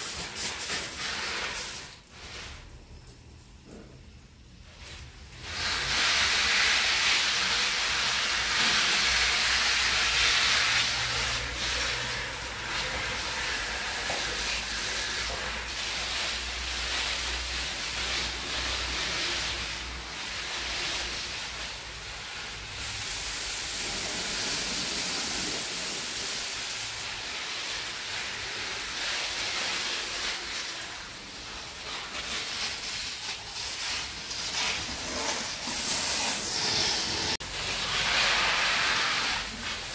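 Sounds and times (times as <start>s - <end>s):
steady hissing: 3.8s - 39.9s.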